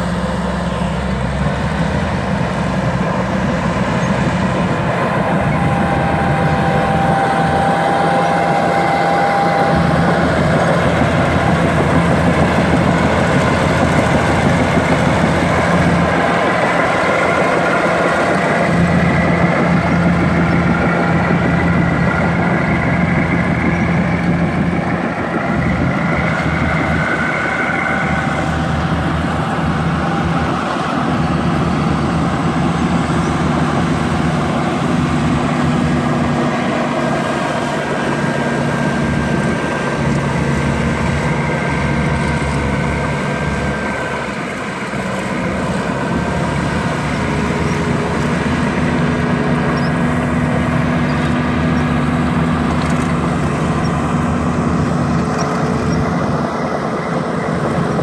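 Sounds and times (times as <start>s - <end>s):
bulldozer diesel engines running: 0.0s - 58.0s.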